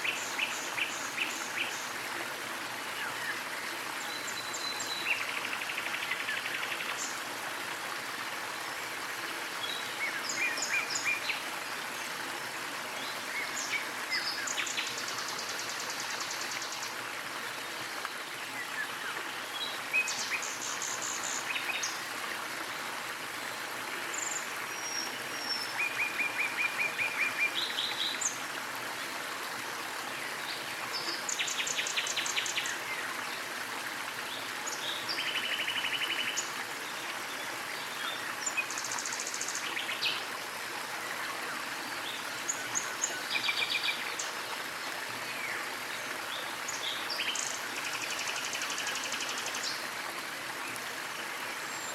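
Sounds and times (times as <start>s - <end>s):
small waterfall rushing: 0.0s - 51.9s.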